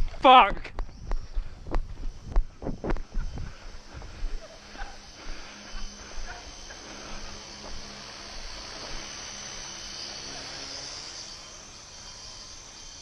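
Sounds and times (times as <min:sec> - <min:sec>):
rc helicopter whine: 0:00.0 - 0:13.0.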